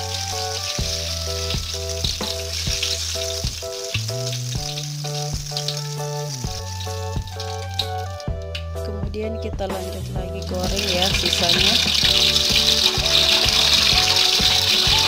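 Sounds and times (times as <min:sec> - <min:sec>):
oil popping: 0:00.0 - 0:08.8, 0:09.8 - 0:15.0
oil sizzling in a wok: 0:00.0 - 0:08.8, 0:09.8 - 0:15.0
background music: 0:00.0 - 0:15.0.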